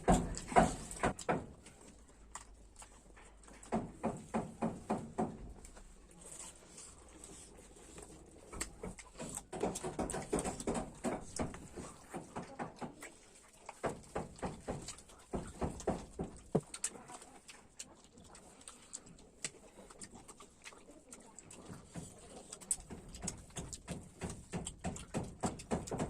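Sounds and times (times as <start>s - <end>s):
person chewing and smacking: 0.0s - 26.0s.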